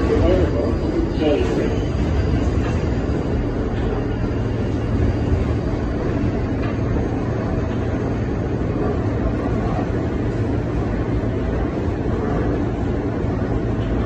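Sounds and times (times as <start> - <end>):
subway car rumbling along track: 0.0 - 14.0.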